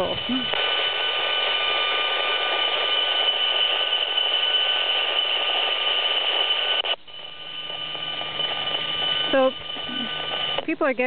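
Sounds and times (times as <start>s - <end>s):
high whistling tones: 0.0s - 11.0s
loud hissing buzz: 0.0s - 11.0s.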